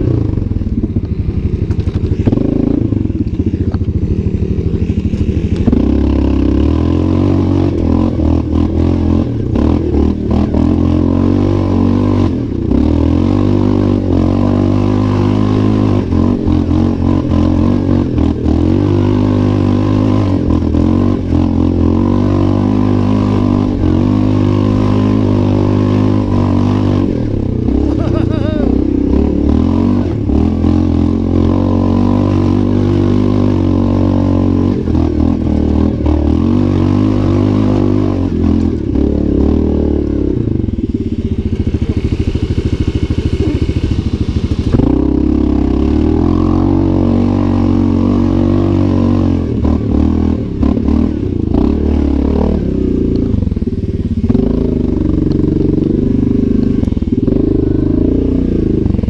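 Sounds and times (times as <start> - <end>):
atv engine running under load: 0.0 - 59.0.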